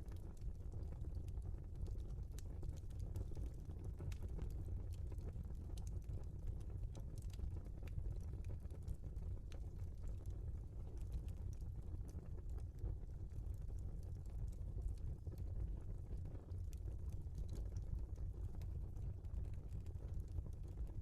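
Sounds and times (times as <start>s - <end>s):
burning logs crackling and popping: 0.0s - 21.0s
low rumble of flames: 0.0s - 21.0s.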